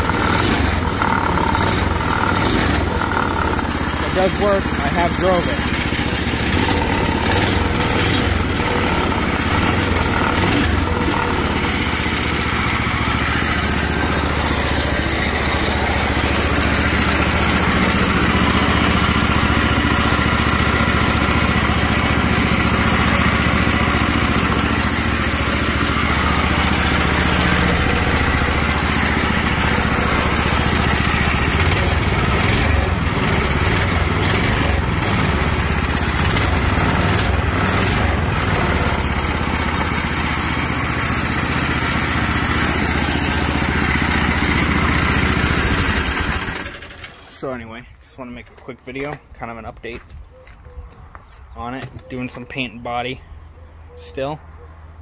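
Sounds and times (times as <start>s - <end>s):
small gas engine running: 0.0s - 47.7s.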